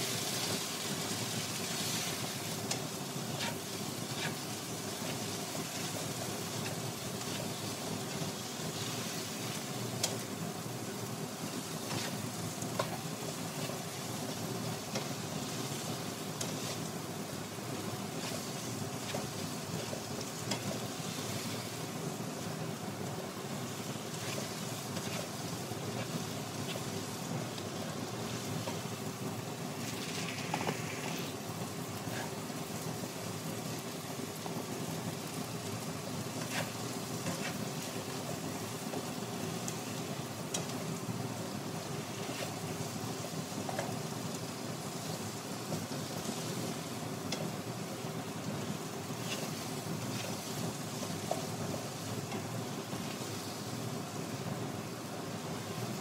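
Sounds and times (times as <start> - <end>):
potatoes sizzling in oil: 0.0 - 56.0.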